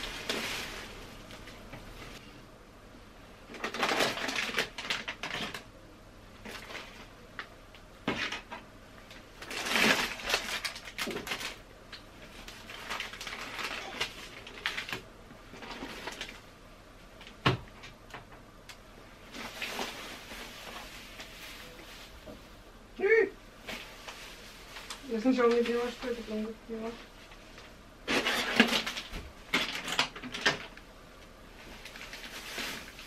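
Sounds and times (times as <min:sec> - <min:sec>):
plastic bags rustling: 0:00.0 - 0:02.3, 0:03.4 - 0:05.7, 0:06.4 - 0:16.6, 0:19.1 - 0:22.7, 0:23.6 - 0:30.8, 0:31.5 - 0:33.0.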